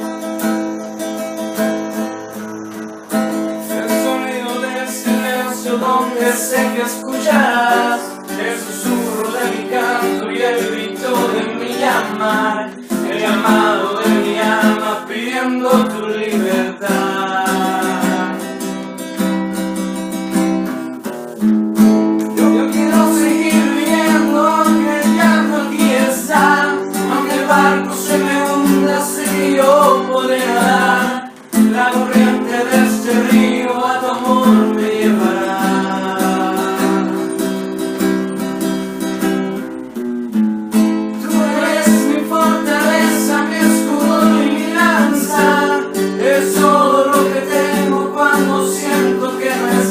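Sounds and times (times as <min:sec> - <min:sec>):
acoustic guitar song: 0:00.0 - 0:49.9.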